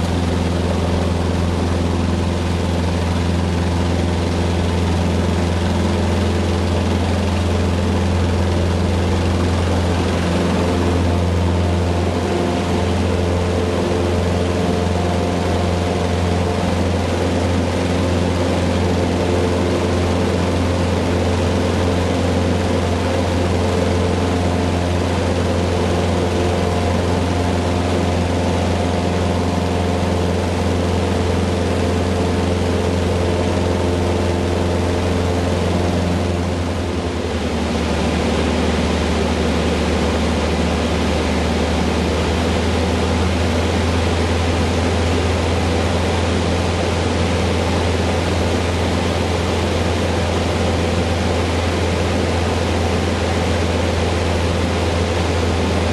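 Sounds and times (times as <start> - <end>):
airplane engine and propeller: 0.0 - 55.9.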